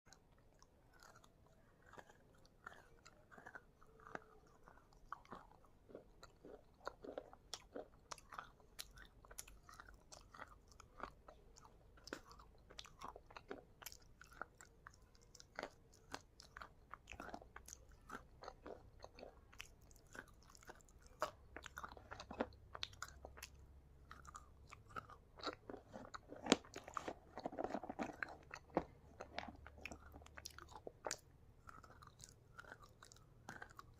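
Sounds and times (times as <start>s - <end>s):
crunching chewing: 0.1s - 33.9s.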